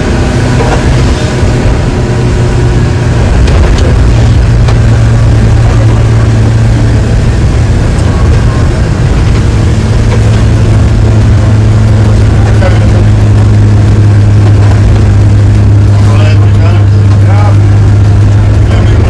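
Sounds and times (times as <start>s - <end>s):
engine running with low hum: 0.0s - 19.0s
rushing noise: 0.0s - 19.0s.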